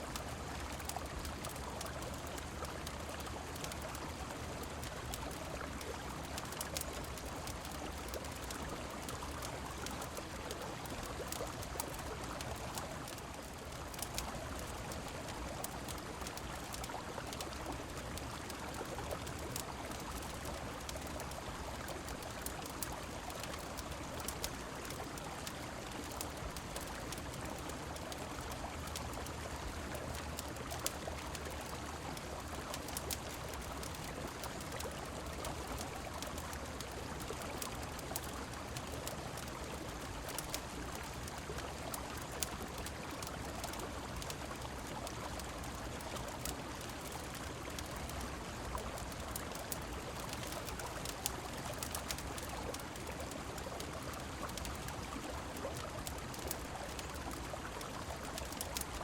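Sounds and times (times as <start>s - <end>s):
rain: 0.0s - 59.0s.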